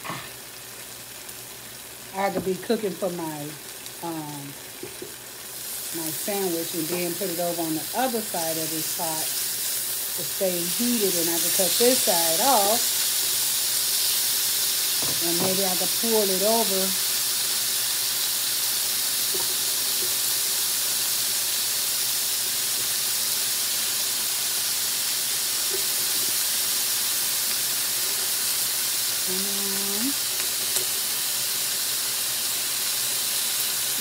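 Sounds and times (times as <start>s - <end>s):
food sizzling on electric grill: 0.0s - 34.0s.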